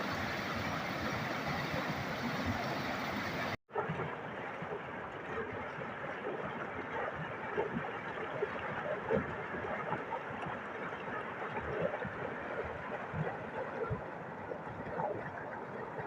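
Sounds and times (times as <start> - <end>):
water rushing down stream: 0.0 - 16.0.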